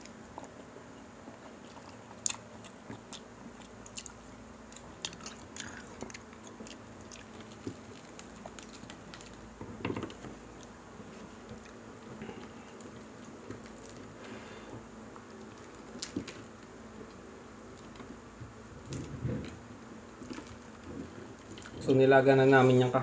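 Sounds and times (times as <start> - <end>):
chewing crispy food: 0.0 - 21.9.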